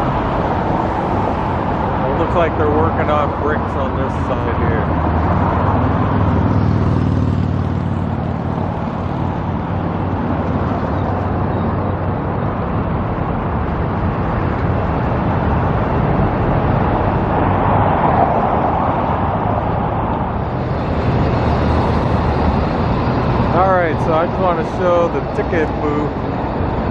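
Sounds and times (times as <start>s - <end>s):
cars passing on busy street: 0.0s - 26.9s
engine hum: 0.0s - 26.9s
vehicle passing loudly: 0.0s - 26.9s.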